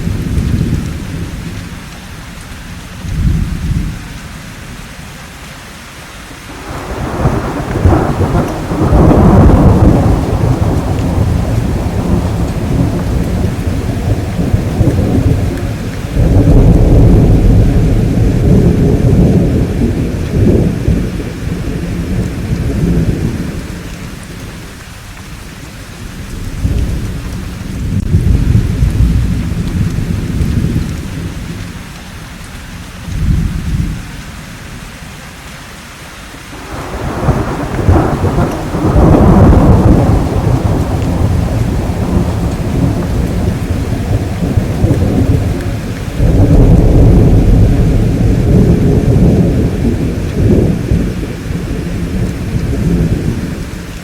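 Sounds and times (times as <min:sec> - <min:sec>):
rolling thunder: 0:00.0 - 0:01.8, 0:06.5 - 0:34.6, 0:36.6 - 0:54.0
steady rain: 0:00.0 - 0:54.0.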